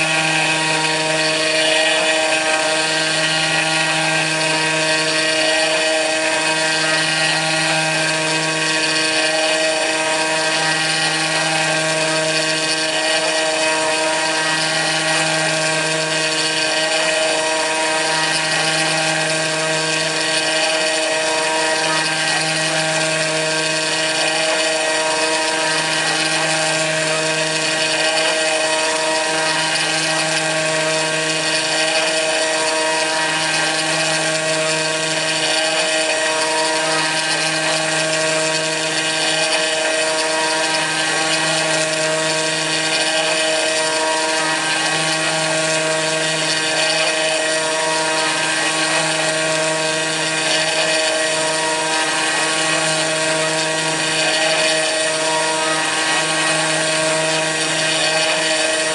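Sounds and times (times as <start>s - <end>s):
router spindle whining: 0.0s - 58.9s.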